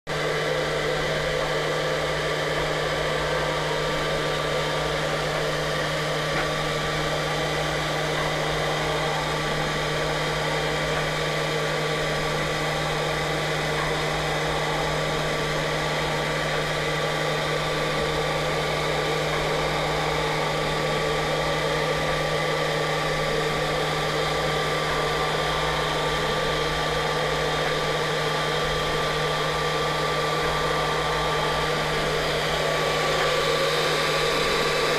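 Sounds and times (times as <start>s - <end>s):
router spindle motor humming: 0.1s - 34.9s.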